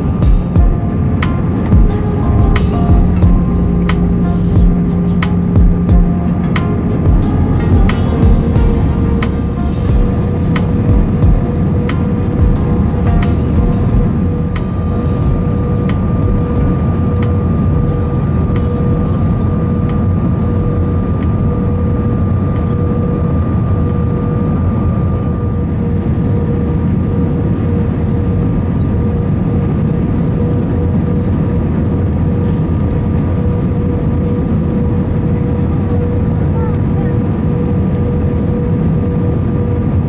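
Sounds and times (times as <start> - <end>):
constant hum of steady tones: 0.0 - 40.0
low roar of engines and airflow: 0.0 - 40.0.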